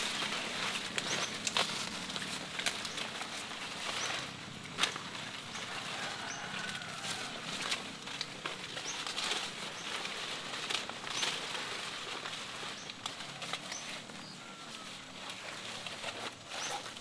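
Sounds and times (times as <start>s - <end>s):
banana leaves rustling: 0.0s - 17.0s.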